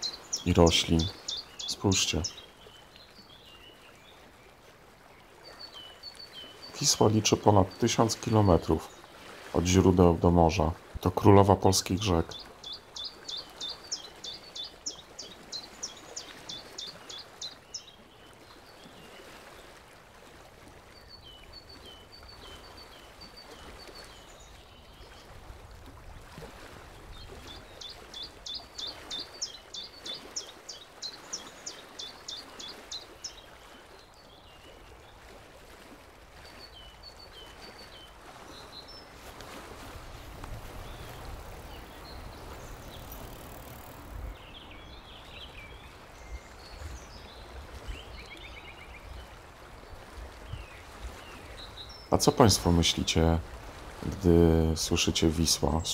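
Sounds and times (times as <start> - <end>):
songbird singing: 0.0 - 19.8, 20.9 - 25.4, 26.9 - 35.4, 36.4 - 55.9.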